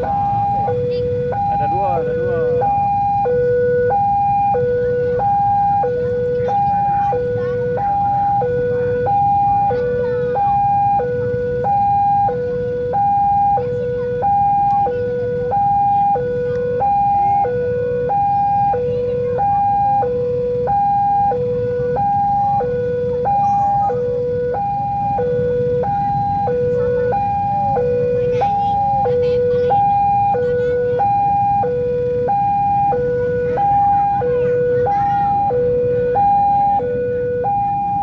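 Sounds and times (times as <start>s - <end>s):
level crossing alarm: 0.0s - 38.0s
road traffic rumble: 0.0s - 38.0s.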